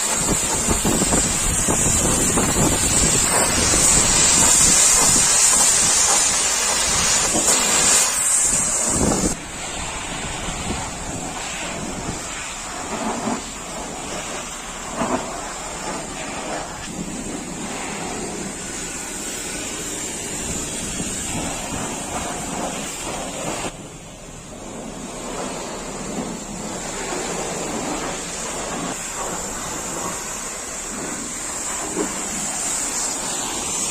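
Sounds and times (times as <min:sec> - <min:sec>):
high-pressure water spray hissing: 0:00.0 - 0:33.9.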